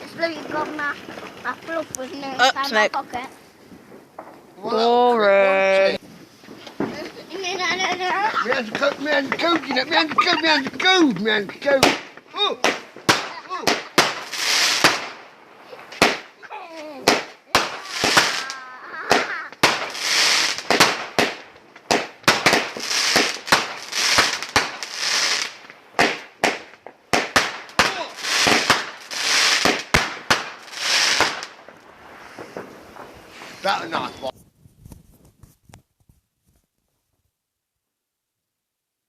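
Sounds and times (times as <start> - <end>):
fireworks bangs: 0.0 - 5.2, 5.8 - 35.0
hissing crackle: 0.0 - 36.6.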